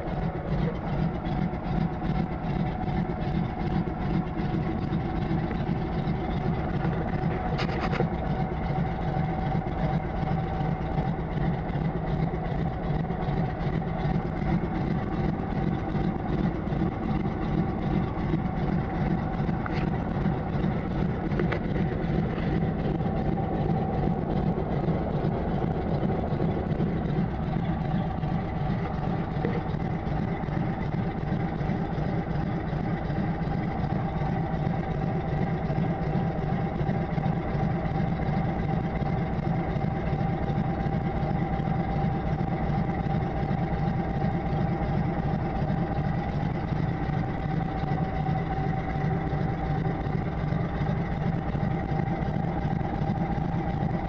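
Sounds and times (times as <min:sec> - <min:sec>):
floatplane engine and propeller droning: 0:00.0 - 0:54.0.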